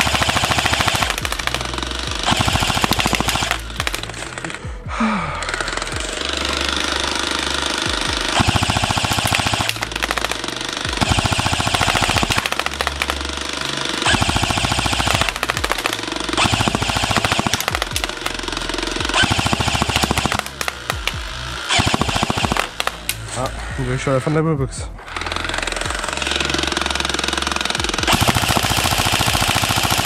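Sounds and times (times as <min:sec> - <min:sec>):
airsoft gun firing bursts: 0:00.0 - 0:04.7, 0:05.4 - 0:23.5, 0:25.0 - 0:30.0.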